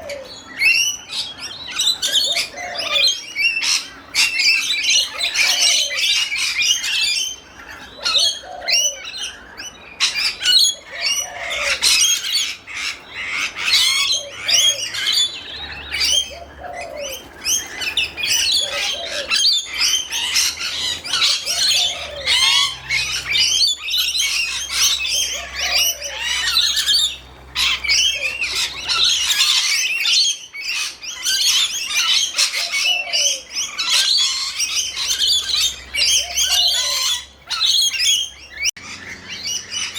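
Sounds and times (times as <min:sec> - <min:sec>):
lorikeets chattering and screeching: 0:00.0 - 0:39.9.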